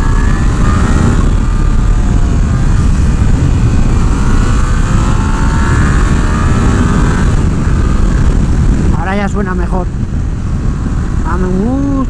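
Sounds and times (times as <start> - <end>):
motorcycle engine accelerating: 0.0 - 12.0
wind rumble on microphone: 0.0 - 12.0.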